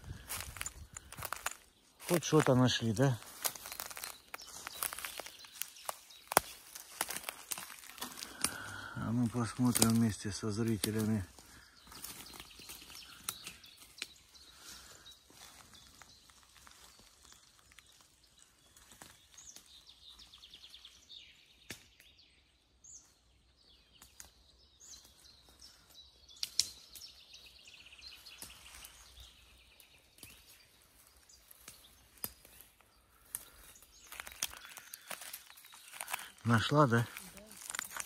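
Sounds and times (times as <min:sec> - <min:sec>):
footsteps in forest litter: 0:00.0 - 0:38.0
small birds trilling and chirping: 0:00.0 - 0:38.0.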